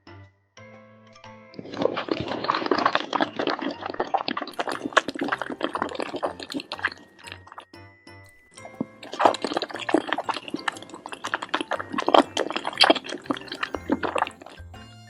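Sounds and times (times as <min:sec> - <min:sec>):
wet crackly food sounds: 0:01.6 - 0:07.8, 0:08.4 - 0:14.7.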